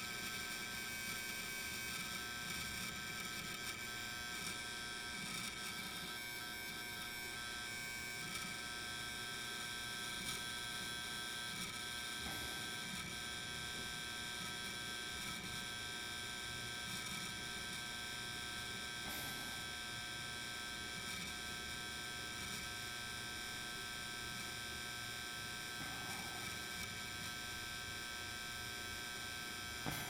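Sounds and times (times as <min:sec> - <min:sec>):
hard drive buzzing whine: 0:00.0 - 0:30.0.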